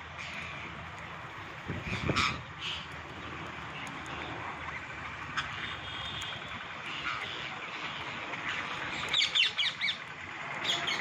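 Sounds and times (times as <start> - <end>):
parakeets chattering and screeching: 0.1 - 11.0.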